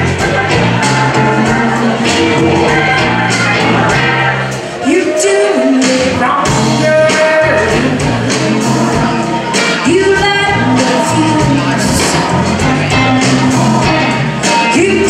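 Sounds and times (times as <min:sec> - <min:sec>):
electric blues band playing: 0:00.0 - 0:15.0
woman singing lead vocal: 0:00.0 - 0:15.0.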